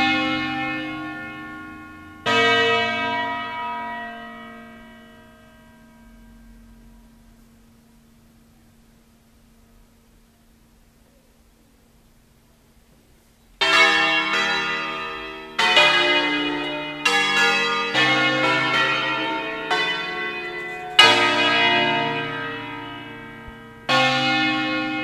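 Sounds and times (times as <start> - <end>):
church bells ringing: 0.0 - 10.8, 13.6 - 25.0.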